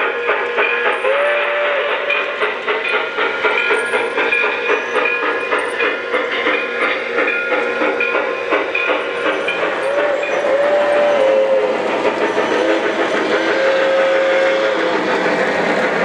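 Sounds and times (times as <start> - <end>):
model train running hum: 0.0 - 16.0
model train wheels clicking on rails: 0.0 - 16.0.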